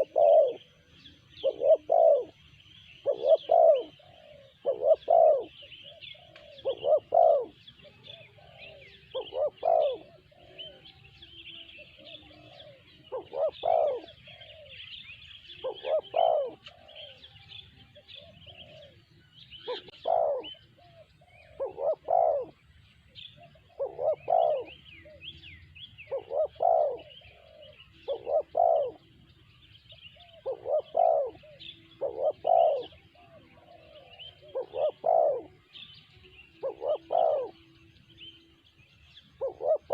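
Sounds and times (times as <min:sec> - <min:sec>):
dove cooing: 0:00.0 - 0:38.6, 0:39.3 - 0:39.9
small birds chirping: 0:00.0 - 0:39.9.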